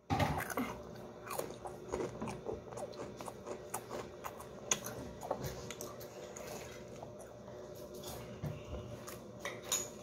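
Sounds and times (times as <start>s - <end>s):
crunching and chewing snacks: 0.1s - 8.3s.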